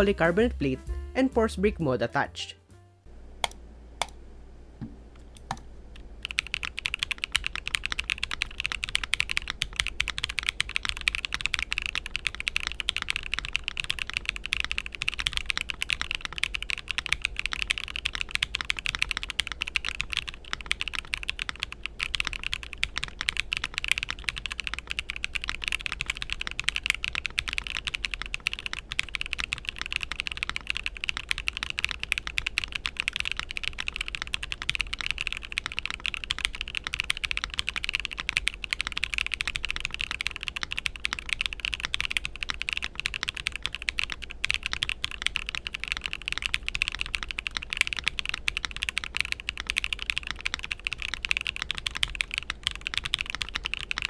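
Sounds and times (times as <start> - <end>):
mechanical keyboard typing: 5.4 - 54.0.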